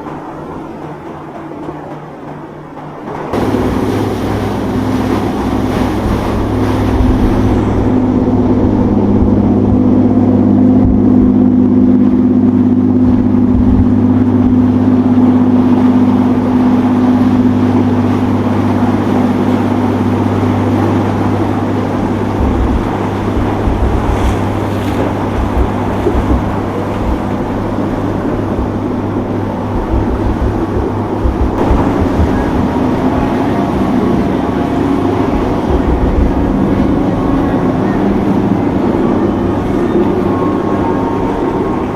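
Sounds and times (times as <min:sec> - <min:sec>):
motorboat engines running: 0:00.0 - 0:41.9.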